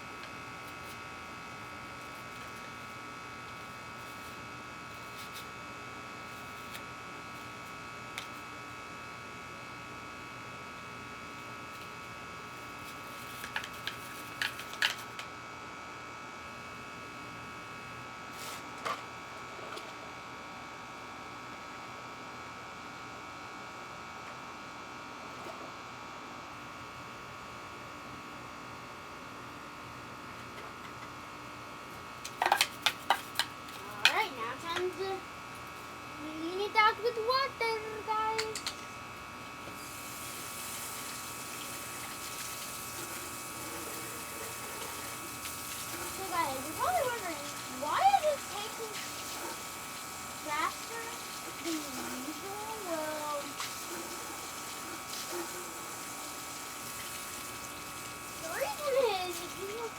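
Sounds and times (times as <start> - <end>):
electrical hum with high tones: 0.0 - 59.9.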